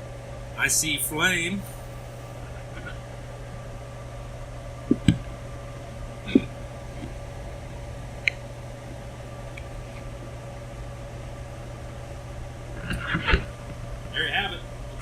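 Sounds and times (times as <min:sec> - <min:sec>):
furnace humming: 0:00.0 - 0:15.0.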